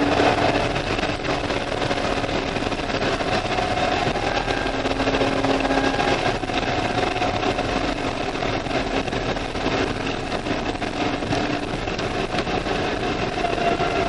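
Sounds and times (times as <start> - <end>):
car engine running at speed: 0.0 - 14.0.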